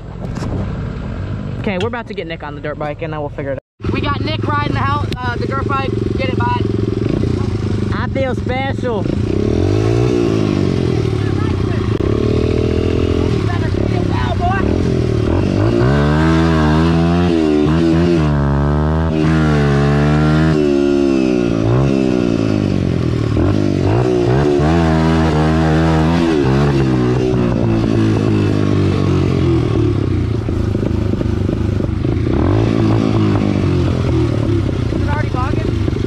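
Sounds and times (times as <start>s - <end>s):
dirt bike engine revving: 3.8s - 36.0s.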